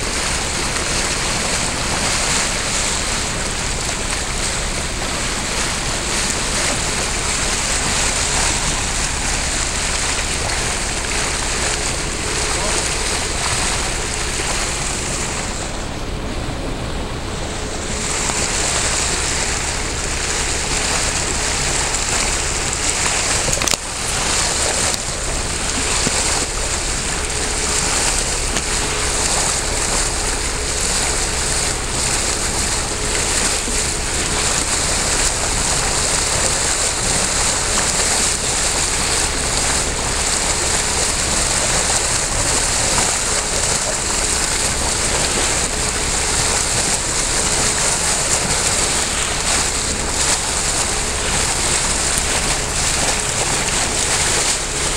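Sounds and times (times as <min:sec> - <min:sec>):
turbulent water rushing: 0:00.0 - 0:54.9.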